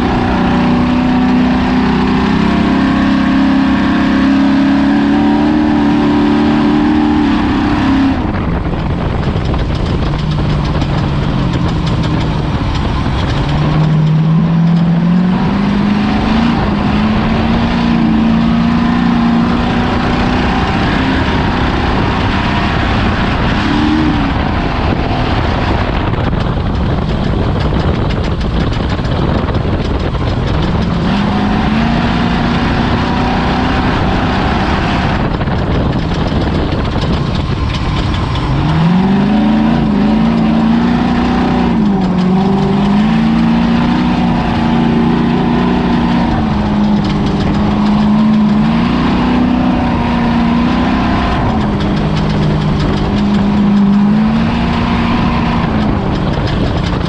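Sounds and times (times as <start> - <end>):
loud constant rush of noise: 0.0 - 57.0
truck engine revving: 0.0 - 57.0.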